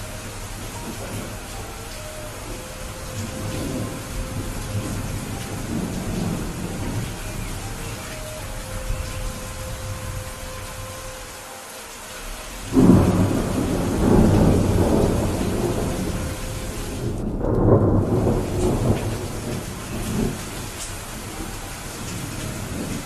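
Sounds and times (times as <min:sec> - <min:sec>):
thunder rumbling: 0:00.0 - 0:11.2, 0:12.6 - 0:23.0
rain hiss: 0:00.0 - 0:23.0.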